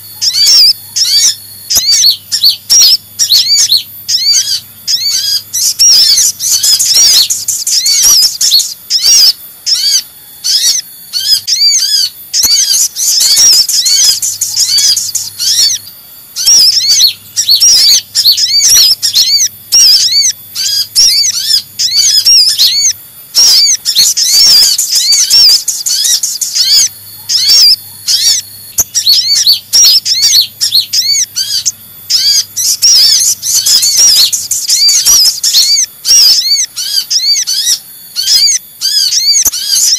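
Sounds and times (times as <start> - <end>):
high-pitched bird chattering: 0.0 - 39.9.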